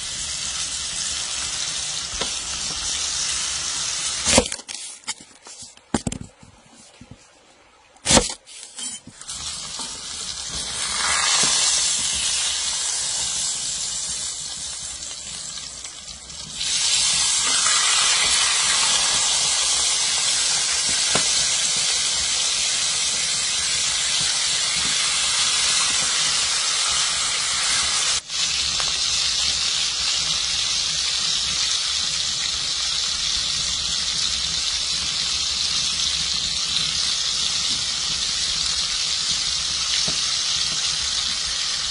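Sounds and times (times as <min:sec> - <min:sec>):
steaks sizzling in a skillet: 0:00.0 - 0:04.3, 0:09.2 - 0:41.9.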